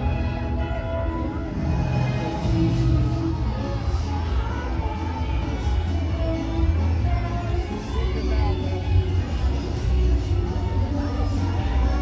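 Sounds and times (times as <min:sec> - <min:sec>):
parade music with heavy bass: 0:00.0 - 0:12.0.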